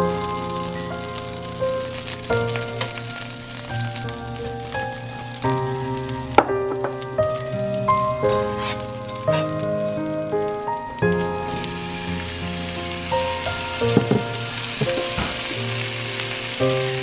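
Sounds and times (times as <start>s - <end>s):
background music with held notes: 0.0s - 17.0s
butter sizzling in a skillet: 0.0s - 17.0s.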